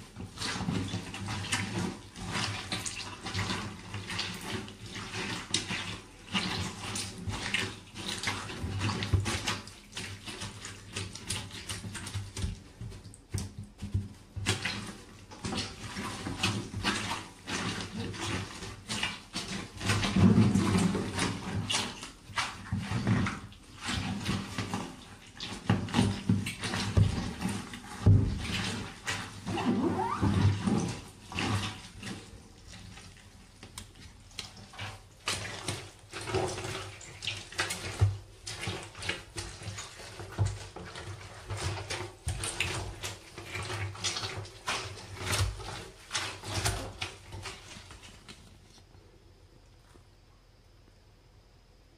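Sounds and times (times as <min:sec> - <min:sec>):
rubber boots squelching wet mash: 0:00.0 - 0:49.2.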